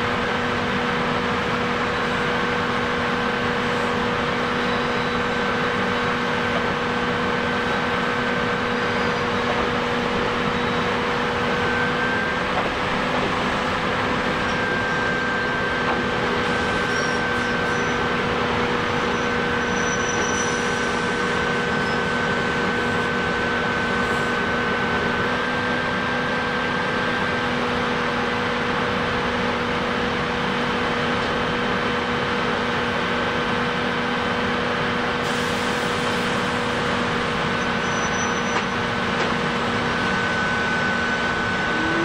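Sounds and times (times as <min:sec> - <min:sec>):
train equipment humming: 0:00.0 - 0:42.0.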